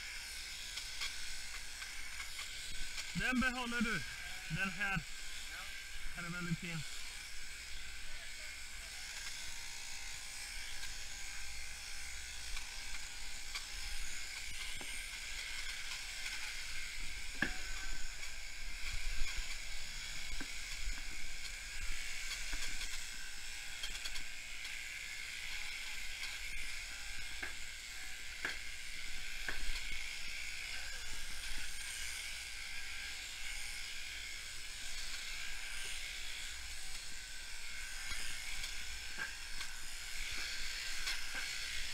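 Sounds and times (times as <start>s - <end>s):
electric sheep shears running: 0.0s - 41.9s
shears cutting through fleece: 0.0s - 41.9s.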